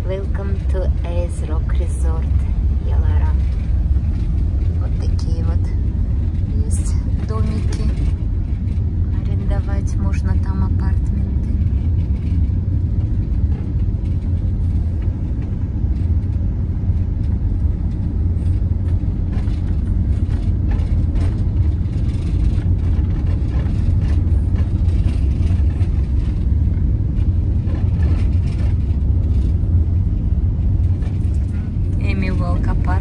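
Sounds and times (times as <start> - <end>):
vehicle road and engine rumble: 0.0 - 33.0.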